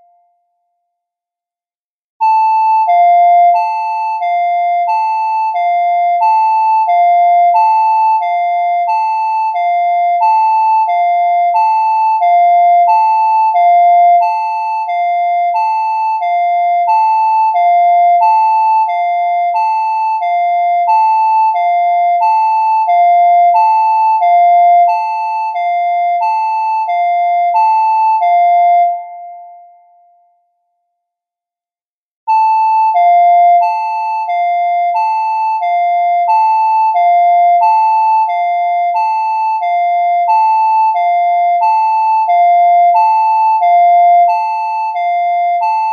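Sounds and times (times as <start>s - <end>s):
hi-lo emergency alert tone: 2.2s - 29.8s, 32.3s - 45.9s.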